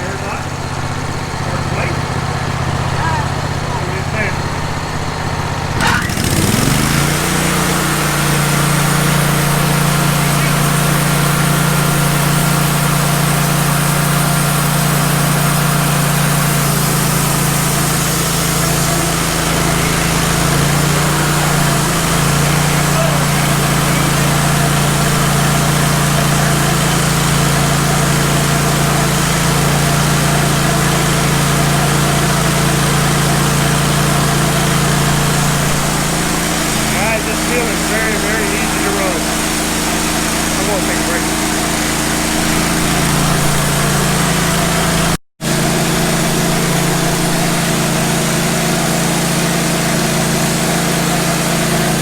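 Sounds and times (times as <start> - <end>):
sawmill engine humming: 0.0 - 52.0.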